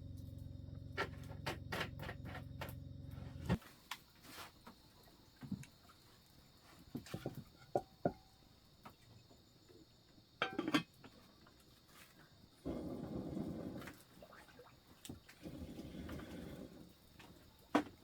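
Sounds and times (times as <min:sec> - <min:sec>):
faint high insect-like hum: 0:00.0 - 0:18.0.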